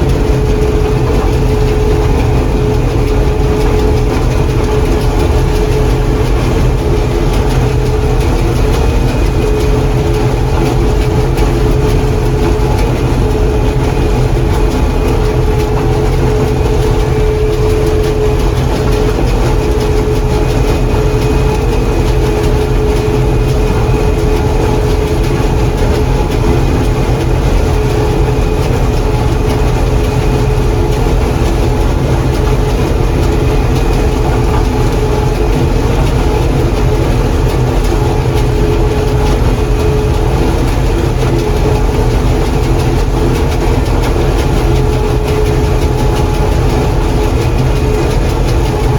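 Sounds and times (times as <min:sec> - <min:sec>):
combine engine drone: 0:00.0 - 0:48.9
mechanical whine: 0:00.0 - 0:48.9.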